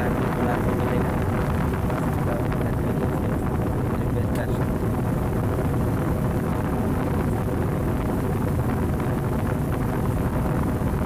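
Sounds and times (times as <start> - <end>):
air buffeting microphone: 0.0 - 11.0
table fan whirring: 0.0 - 11.0.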